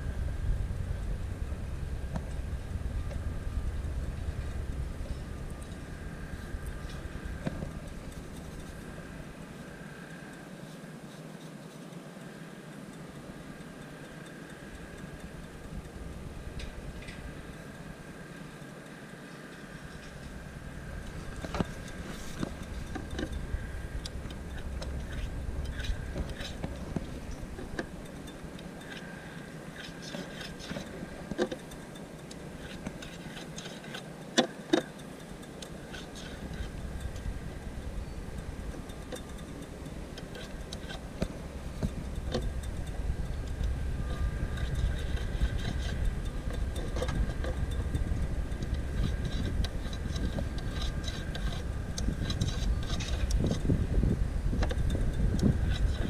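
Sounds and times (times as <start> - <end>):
distant road traffic rumbling: 0.0 - 56.0.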